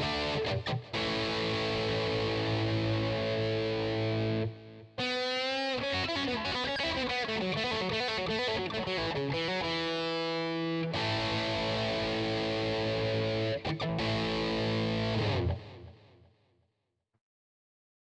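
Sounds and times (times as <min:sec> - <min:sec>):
distorted electric guitar: 0:00.0 - 0:16.2.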